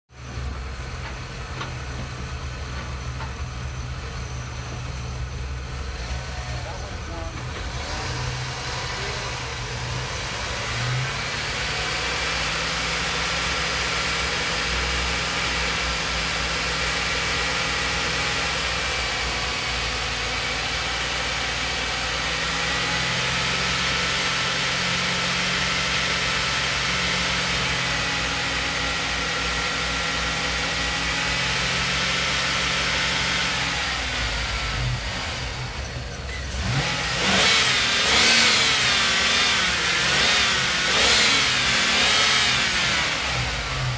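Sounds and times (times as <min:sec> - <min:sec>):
car engine running: 0:00.1 - 0:43.9.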